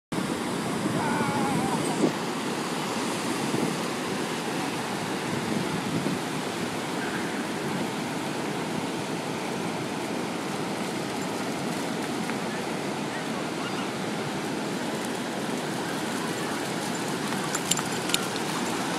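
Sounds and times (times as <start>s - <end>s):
ocean surf breaking: 0.2s - 18.9s.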